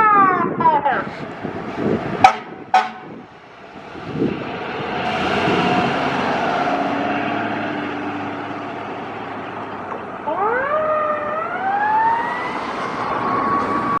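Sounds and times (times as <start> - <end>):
truck rumbling on road: 0.0 - 14.0.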